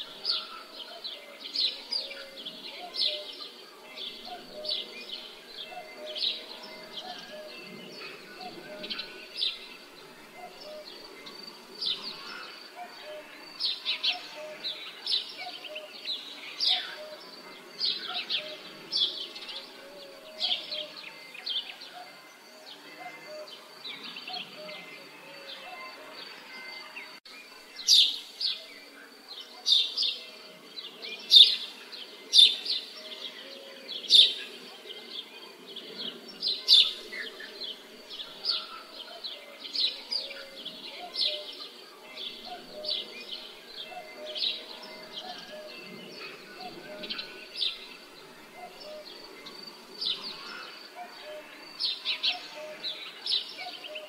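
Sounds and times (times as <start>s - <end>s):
birds chirping: 0.0s - 54.0s
faint outdoor background: 0.0s - 54.0s.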